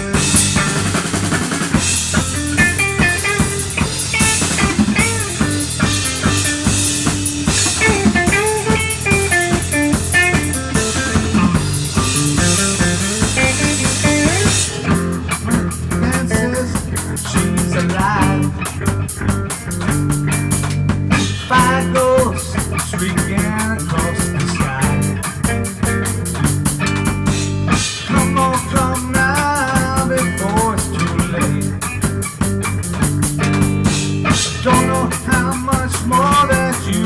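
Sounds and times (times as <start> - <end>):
drum kit: 0.0 - 37.0
rock guitar: 0.0 - 37.0.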